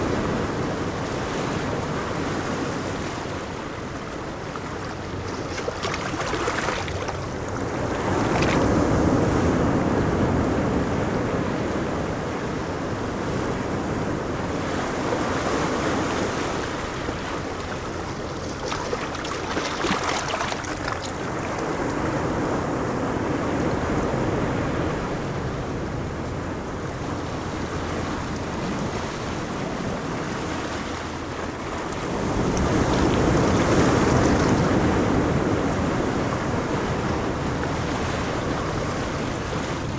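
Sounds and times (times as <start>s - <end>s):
ocean waves breaking: 0.0s - 39.9s
wind buffeting microphone: 0.0s - 39.9s.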